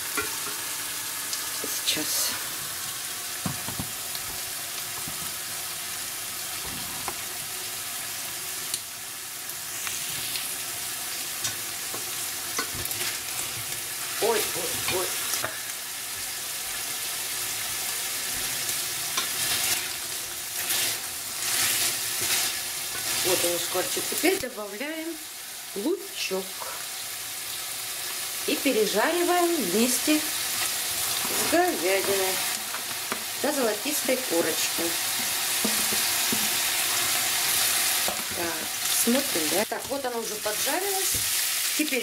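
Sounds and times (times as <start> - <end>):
meat sizzling in oil: 0.0 - 42.0.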